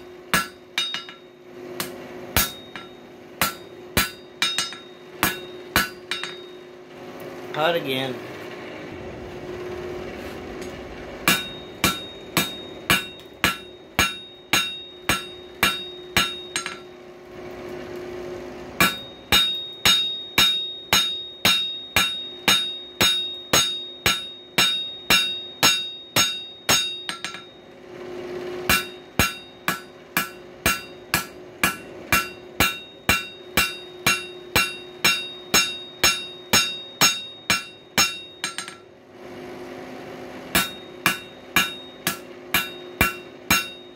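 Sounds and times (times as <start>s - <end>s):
hammer striking steel on anvil: 0.0s - 6.8s, 10.5s - 17.0s, 18.8s - 39.0s, 40.4s - 43.9s
low hum: 0.0s - 43.9s.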